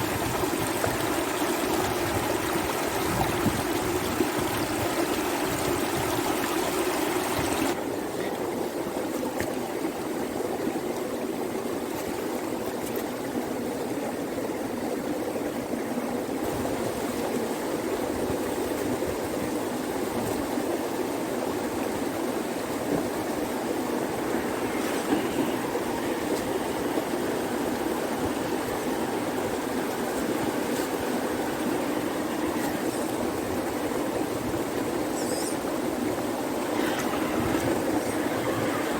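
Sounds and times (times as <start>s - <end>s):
river water rushing: 0.0s - 10.7s, 16.4s - 38.9s.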